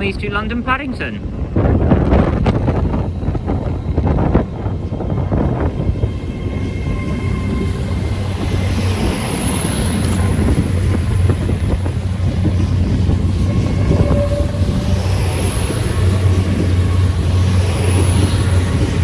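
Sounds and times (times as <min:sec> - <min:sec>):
train hum and rumble: 0:00.0 - 0:19.0
high whine tones: 0:02.4 - 0:19.0.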